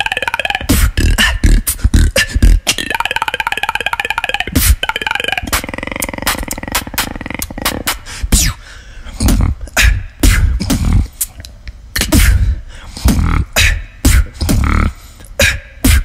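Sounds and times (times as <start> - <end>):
person beatboxing: 0.0 - 16.0.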